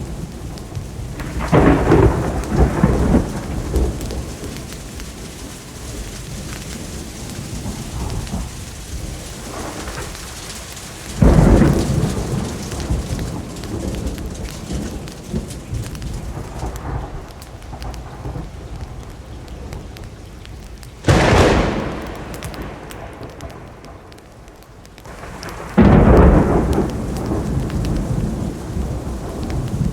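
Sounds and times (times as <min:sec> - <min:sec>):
heavy rain: 0:00.0 - 0:29.9
loud thunderclaps: 0:00.0 - 0:29.9
rolling thunder: 0:00.0 - 0:29.9.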